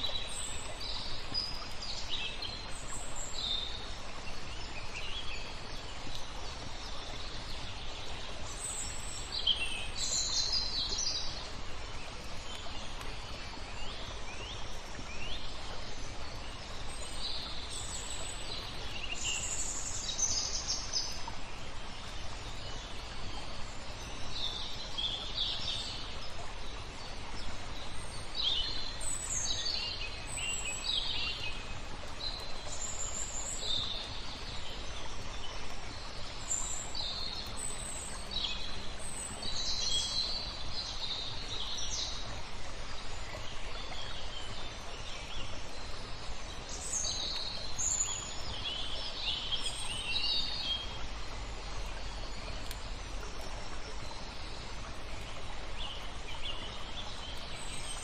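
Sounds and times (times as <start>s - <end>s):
flowing water rush: 0.0s - 58.0s
songbirds chirping: 0.0s - 58.0s.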